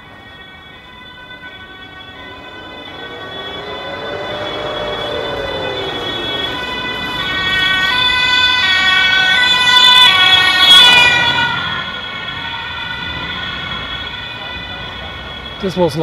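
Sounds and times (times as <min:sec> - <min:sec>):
two-tone siren: 0:00.0 - 0:16.0.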